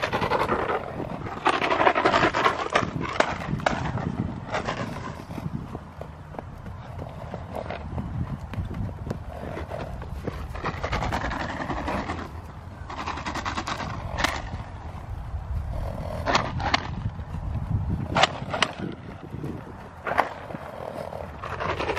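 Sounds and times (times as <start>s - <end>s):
horse hoofbeats on grass: 0.0s - 21.9s
wind on microphone: 0.0s - 21.9s.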